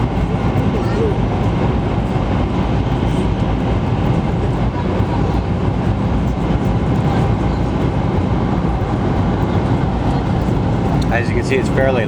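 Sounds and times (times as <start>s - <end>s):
train running through tunnel: 0.0s - 12.0s.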